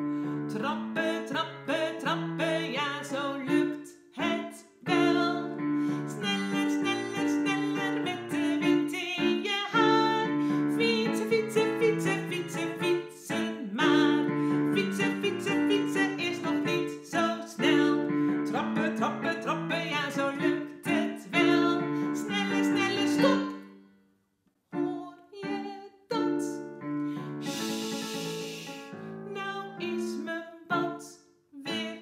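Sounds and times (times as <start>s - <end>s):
woman singing: 0.4s - 23.6s, 24.8s - 32.0s.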